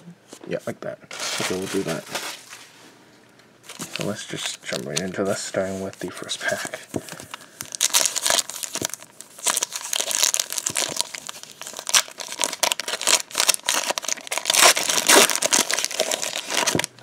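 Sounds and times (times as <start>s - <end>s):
foil wrapper crinkling: 1.1s - 2.6s, 3.7s - 16.9s.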